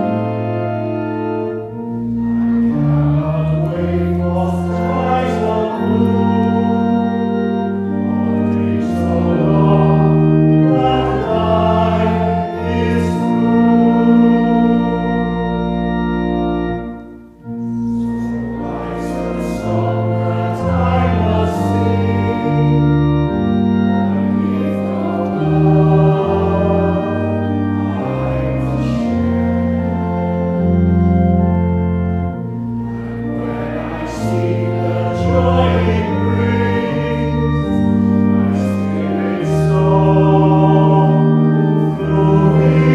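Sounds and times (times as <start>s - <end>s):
congregation singing a hymn: 0.0s - 42.9s
pipe organ sustained chords: 0.0s - 42.9s.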